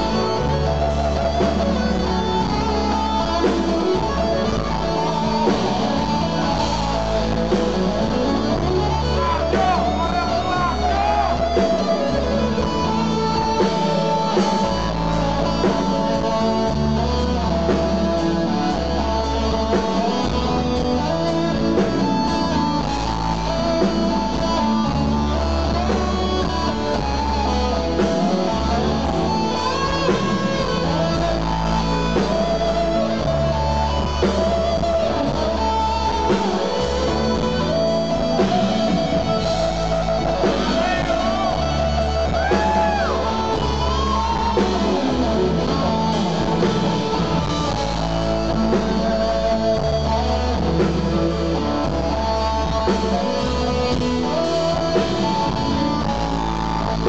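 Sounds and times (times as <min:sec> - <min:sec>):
bass: 0:00.0 - 0:57.0
electric guitar lead: 0:00.0 - 0:57.0
keyboards: 0:00.0 - 0:57.0.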